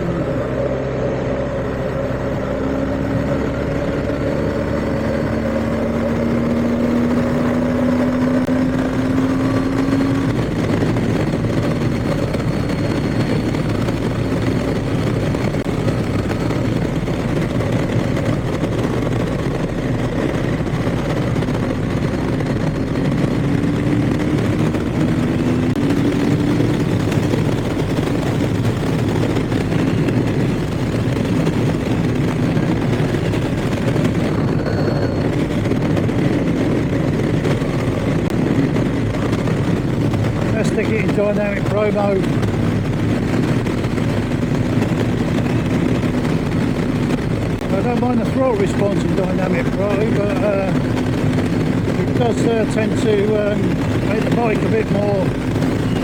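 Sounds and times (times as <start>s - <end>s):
motorcycle engine accelerating: 0.0s - 56.0s
wind rush on microphone: 0.0s - 56.0s.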